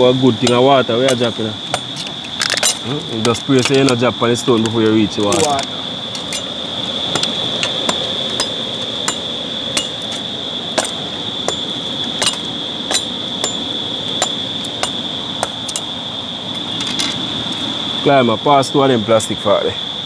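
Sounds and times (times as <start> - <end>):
high-pitched insect drone: 0.0 - 20.0
outdoor hiss: 0.0 - 20.0.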